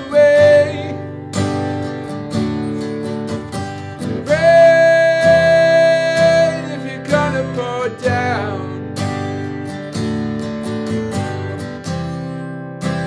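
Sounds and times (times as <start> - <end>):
acoustic guitar lead line: 0.0 - 13.0
looped strummed guitar chords: 0.0 - 13.0.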